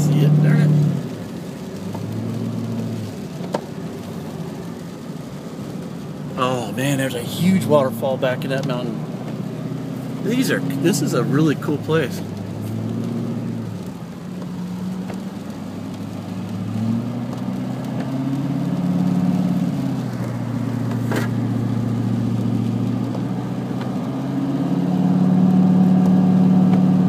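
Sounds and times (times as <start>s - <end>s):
car engine: 0.0s - 27.0s
road noise inside car: 0.0s - 27.0s.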